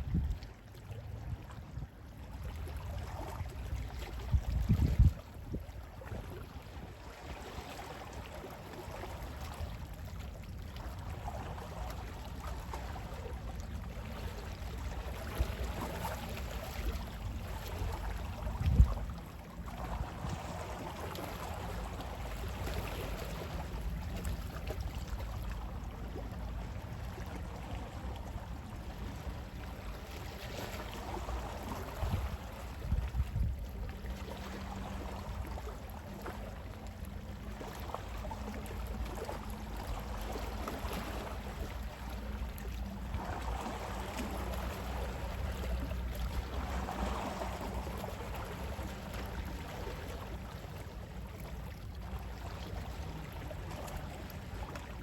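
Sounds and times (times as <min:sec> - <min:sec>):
low rumble of wind: 0:00.0 - 0:55.0
sea waves washing in: 0:06.2 - 0:55.0.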